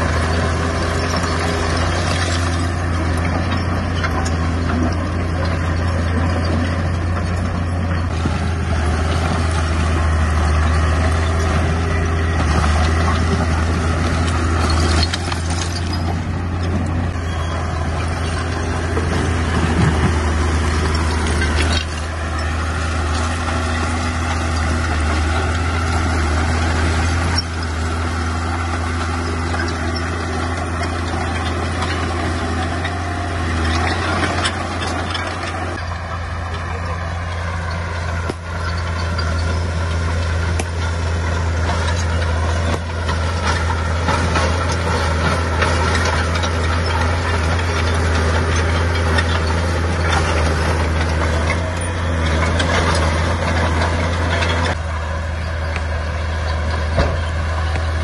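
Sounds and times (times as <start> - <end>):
bulldozer diesel engine drone: 0.0 - 58.0.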